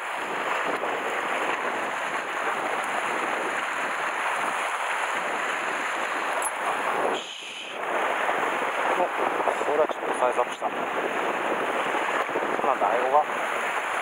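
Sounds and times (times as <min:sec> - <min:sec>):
surf washing against rocks: 0:00.0 - 0:14.0
wind on microphone: 0:00.0 - 0:14.0.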